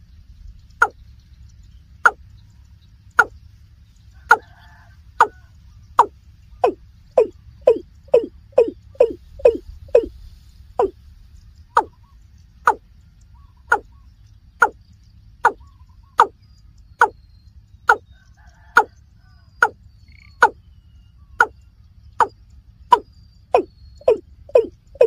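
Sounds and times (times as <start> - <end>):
faint low rumble: 0.0 - 25.0.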